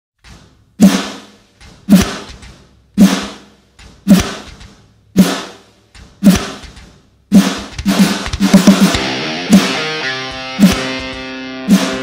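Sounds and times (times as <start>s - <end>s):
rock drum hits with cymbals: 0.8s - 12.0s.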